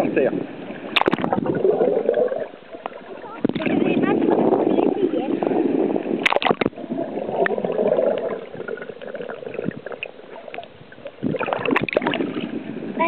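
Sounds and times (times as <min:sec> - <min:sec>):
underwater bubbling and gurgling: 0:00.0 - 0:13.0.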